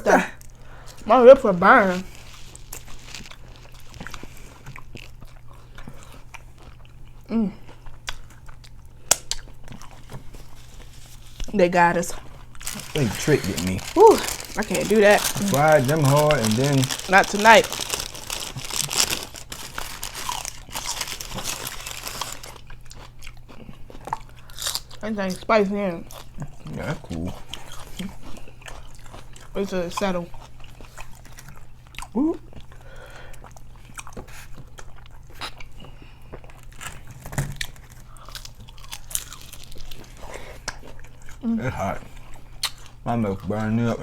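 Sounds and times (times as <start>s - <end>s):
low steady hum: 0.0s - 44.0s
crunchy chewing of fried chicken: 0.2s - 44.0s.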